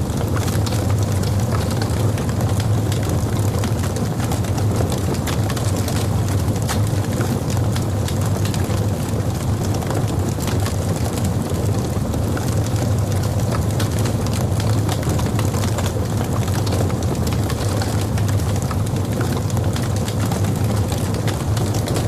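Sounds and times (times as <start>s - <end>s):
fire rumbling: 0.0s - 22.0s
fire crackling and popping: 0.1s - 22.0s.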